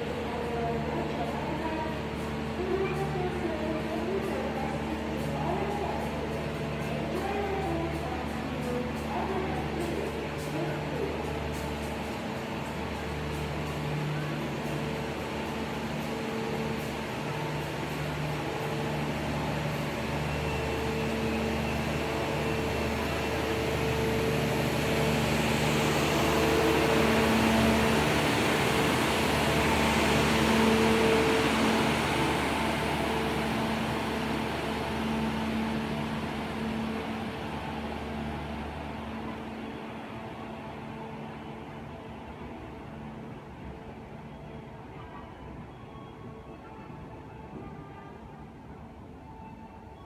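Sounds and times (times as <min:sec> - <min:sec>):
diesel generator hum: 0:00.0 - 0:43.4
train rolling past: 0:00.0 - 0:50.0.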